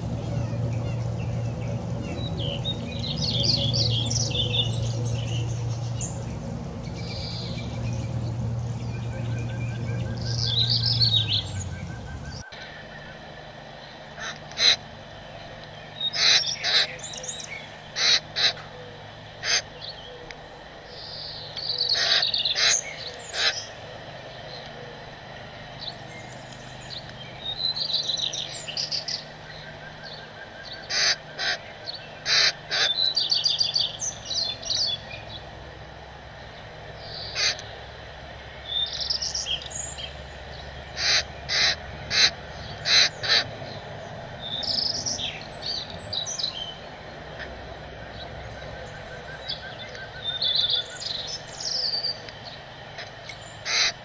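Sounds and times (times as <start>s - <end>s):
fledgling bird begging calls: 0.0s - 13.2s, 14.1s - 14.9s, 16.0s - 20.3s, 20.9s - 25.1s, 25.8s - 35.8s, 36.9s - 38.0s, 38.6s - 54.0s.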